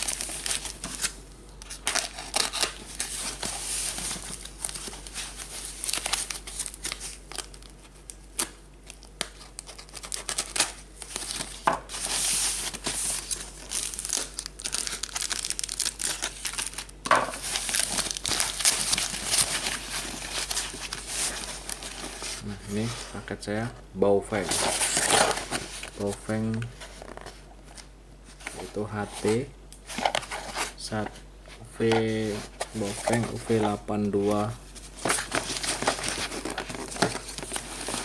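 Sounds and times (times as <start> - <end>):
foam packaging crinkling and ripping: 0.0 - 22.9, 24.4 - 30.8, 31.9 - 38.0.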